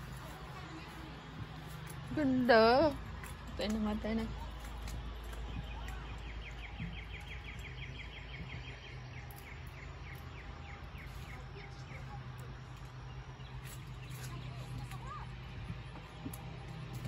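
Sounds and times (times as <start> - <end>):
steady low hum: 0.0 - 17.0
bird chirping: 2.9 - 17.0.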